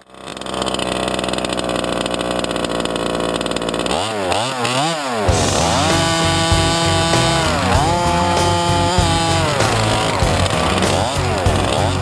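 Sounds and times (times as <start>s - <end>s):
small two-stroke engine idling: 0.0s - 12.0s
engine revving: 0.1s - 12.0s.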